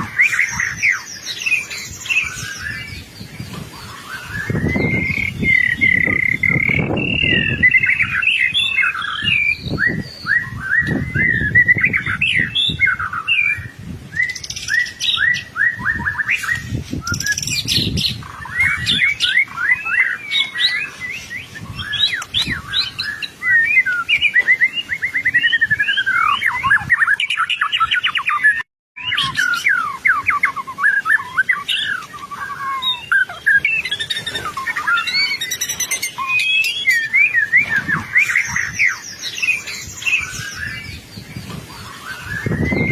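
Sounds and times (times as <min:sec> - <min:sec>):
bird singing chirps and trills: 0:00.0 - 0:42.9.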